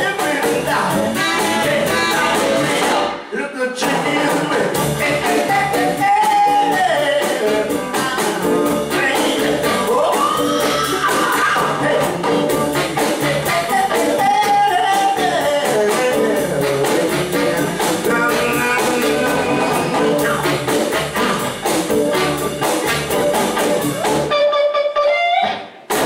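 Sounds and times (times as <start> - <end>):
upright bass: 0.0 - 3.2, 3.8 - 24.5, 25.4 - 26.0
keyboard: 0.0 - 24.7
drums: 0.0 - 26.0
electric guitar: 0.0 - 26.0.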